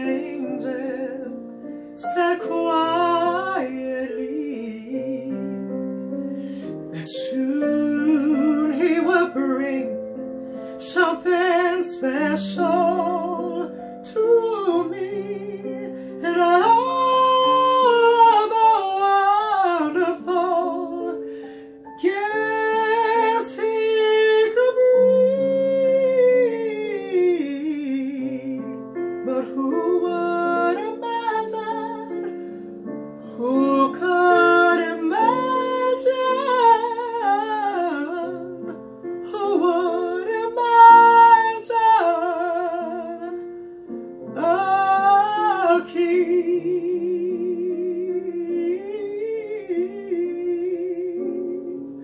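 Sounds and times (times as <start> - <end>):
instrumental accompaniment chords: 0.0 - 49.2
man singing with vibrato: 0.0 - 52.0.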